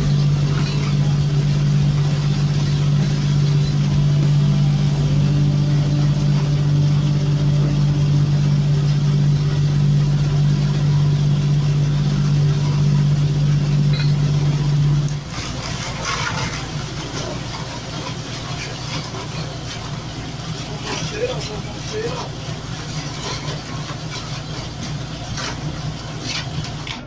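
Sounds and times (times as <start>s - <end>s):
boat engine humming: 0.0s - 27.0s
rough engine and water noise: 0.0s - 27.0s.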